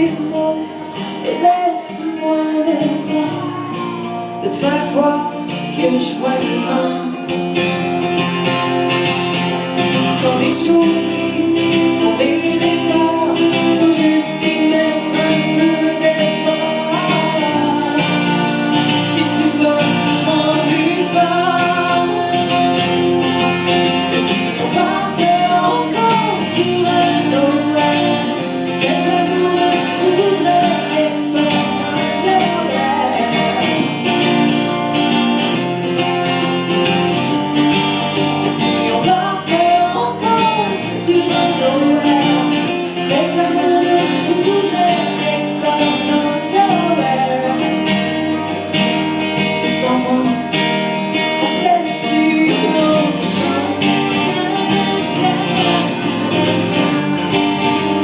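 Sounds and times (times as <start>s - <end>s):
woman singing: 0.0s - 7.8s, 9.4s - 34.5s, 38.0s - 48.8s, 49.4s - 58.0s
acoustic guitar strumming: 0.0s - 58.0s.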